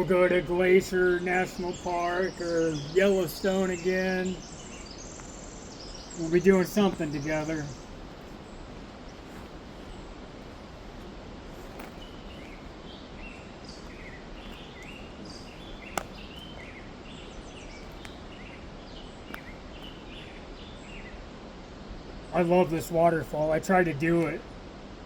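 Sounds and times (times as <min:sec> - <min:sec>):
birds chirping: 0:00.0 - 0:24.5
background hiss: 0:00.0 - 0:25.0.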